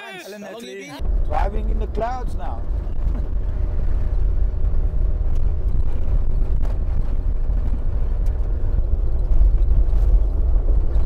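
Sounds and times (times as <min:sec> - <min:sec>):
vehicle engine and road rumble: 0:01.0 - 0:11.0.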